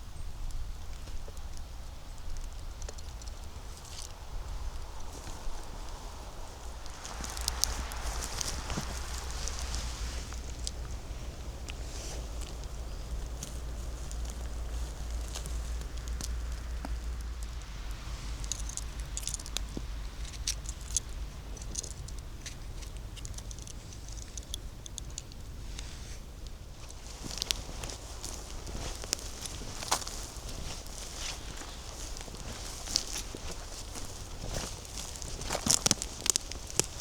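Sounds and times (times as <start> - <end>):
steady low rumble: 1.7 - 37.0
footsteps on leaves and twigs: 2.4 - 24.6, 26.3 - 37.0.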